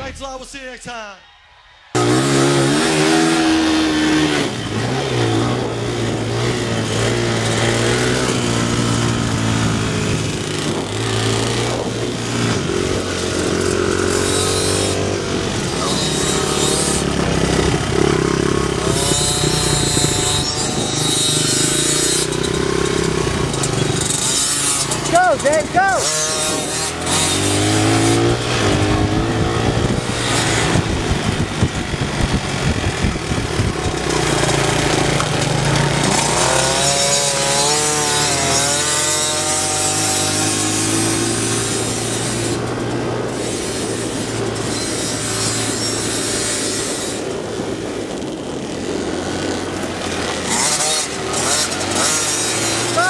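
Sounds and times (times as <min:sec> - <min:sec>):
dirt bike engines revving: 0:01.8 - 0:53.0.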